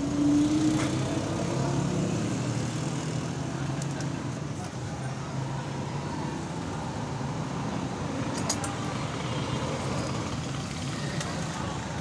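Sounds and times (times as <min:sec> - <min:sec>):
low rumble of motor traffic: 0:00.0 - 0:12.0.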